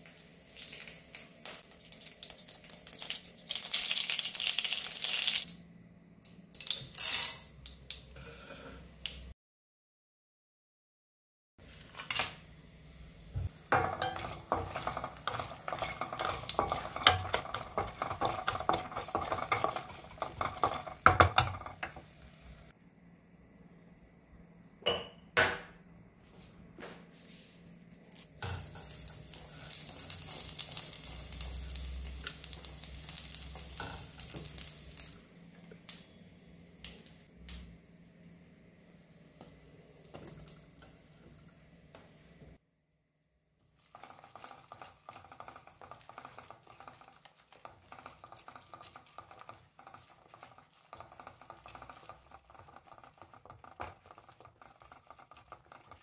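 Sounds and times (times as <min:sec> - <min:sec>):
seeds crackling in hot oil: 0:00.0 - 0:05.6, 0:06.3 - 0:08.1, 0:11.6 - 0:22.8, 0:28.1 - 0:42.6, 0:43.6 - 0:56.0.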